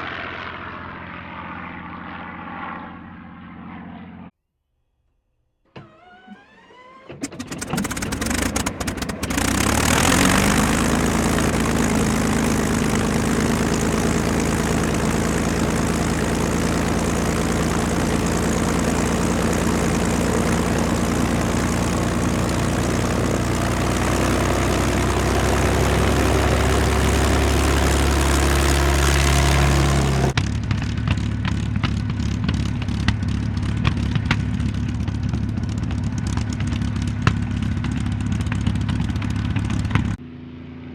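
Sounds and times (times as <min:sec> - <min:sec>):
piston aircraft engine running: 0:00.0 - 0:04.3, 0:05.8 - 0:40.9
engine ticking: 0:07.2 - 0:40.2.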